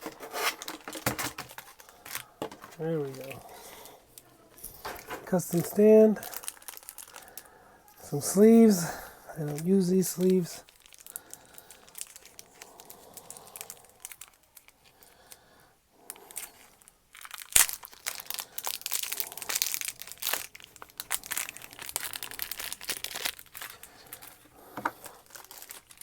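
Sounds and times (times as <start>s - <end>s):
plastic packaging crinkling: 0.0s - 7.6s, 8.3s - 15.4s, 16.0s - 26.0s.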